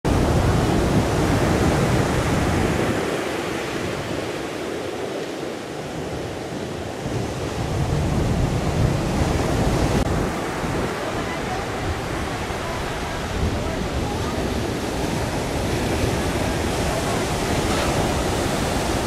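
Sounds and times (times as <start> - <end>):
ocean surf breaking: 0.1 - 19.0.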